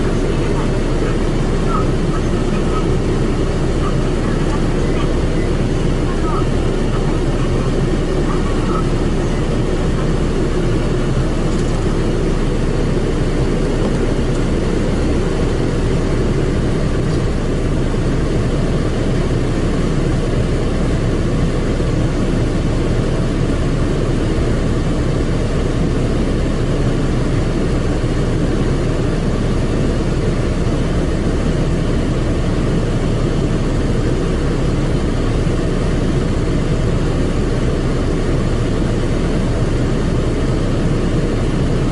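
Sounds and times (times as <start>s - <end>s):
car wash machine rumbling: 0.0s - 41.9s.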